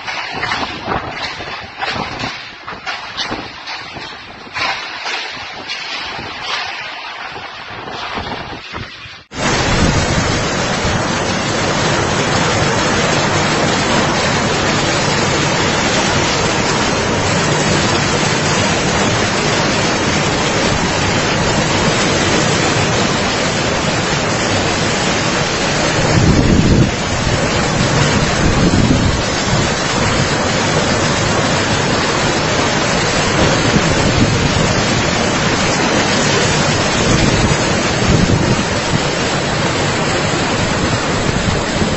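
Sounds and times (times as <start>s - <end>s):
wind and rain on microphone: 0.0s - 41.9s.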